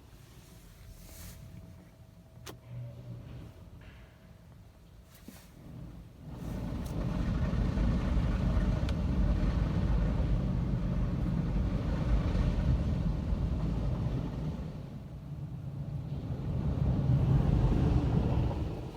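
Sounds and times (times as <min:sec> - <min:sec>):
car wash machinery rumbling: 0:03.0 - 0:18.9.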